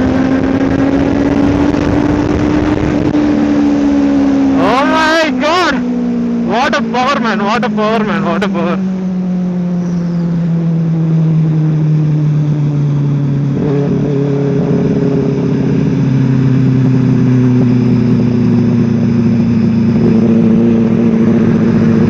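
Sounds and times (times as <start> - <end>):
motorcycle engine at speed: 0.0 - 22.0.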